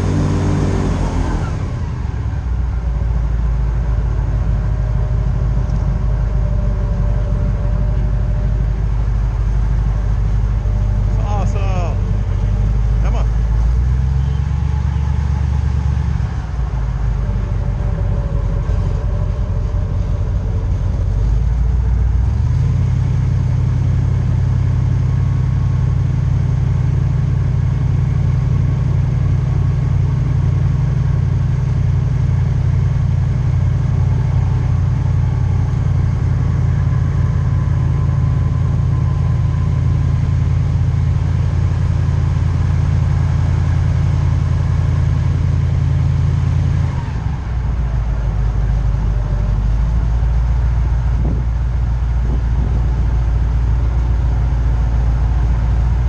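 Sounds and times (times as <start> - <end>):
airboat engine and propeller: 0.0 - 56.0.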